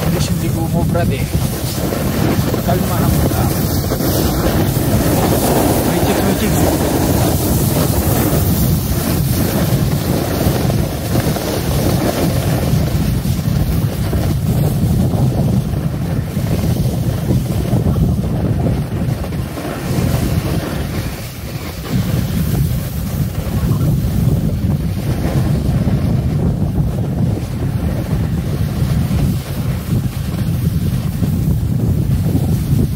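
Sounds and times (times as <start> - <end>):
skis sliding over packed snow: 0.0 - 32.9
wind buffeting microphone: 0.0 - 32.9.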